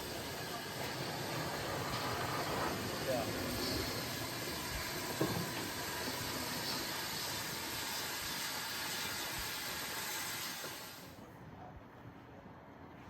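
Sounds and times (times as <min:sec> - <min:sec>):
steam hissing from locomotive: 0:00.0 - 0:11.2.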